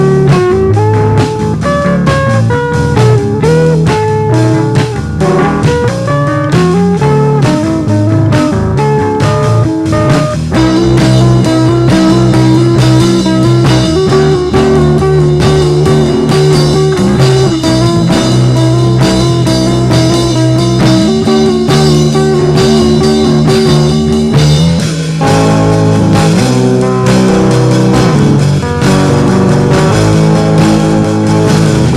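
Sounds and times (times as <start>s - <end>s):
bass guitar: 0.0s - 31.9s
drum kit beat: 0.0s - 31.9s
electric guitar: 0.0s - 31.9s.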